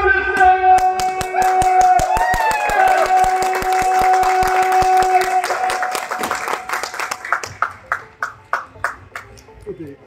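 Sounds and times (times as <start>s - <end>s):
crowd clapping in rhythm: 0.7s - 9.4s.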